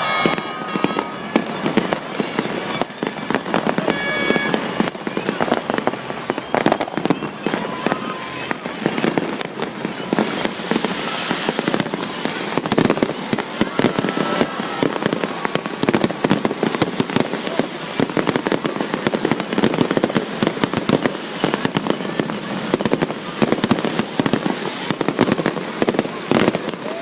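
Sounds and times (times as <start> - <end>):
fireworks banging and crackling: 0.0 - 27.0.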